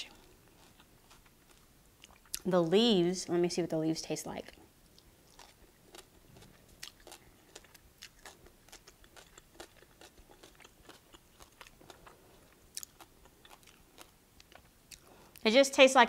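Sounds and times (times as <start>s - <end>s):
chewing with wet mouth clicks: 0.2s - 2.5s, 4.8s - 15.4s.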